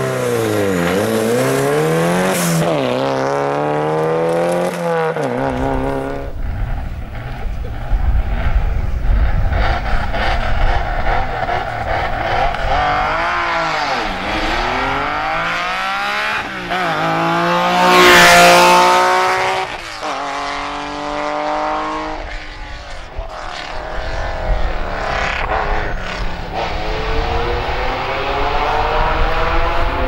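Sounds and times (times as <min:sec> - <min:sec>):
rally car accelerating: 0:00.0 - 0:30.0.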